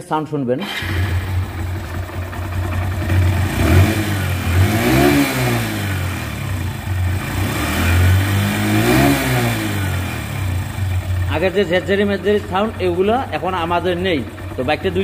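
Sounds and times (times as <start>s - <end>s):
motorcycle engine idling and revving: 0.6s - 15.0s.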